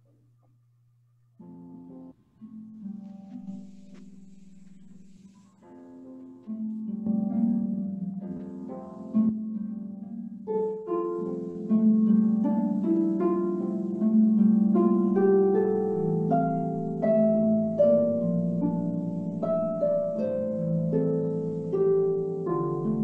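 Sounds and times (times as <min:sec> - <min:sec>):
harp melody: 0:01.4 - 0:23.0.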